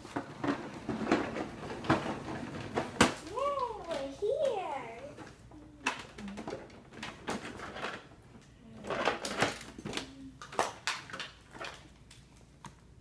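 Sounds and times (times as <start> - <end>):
plastic toy parts clattering: 0.1 - 8.2, 8.8 - 11.9.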